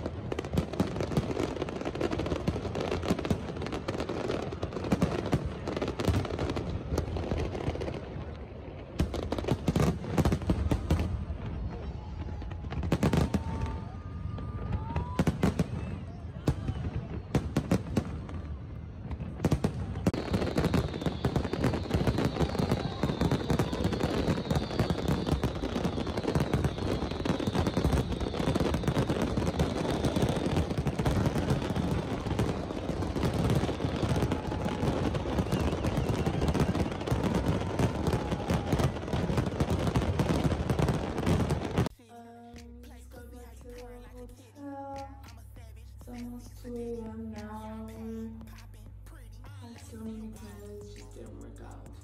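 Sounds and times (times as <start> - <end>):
fireworks bangs and crackles: 0.0 - 42.0, 46.0 - 52.0.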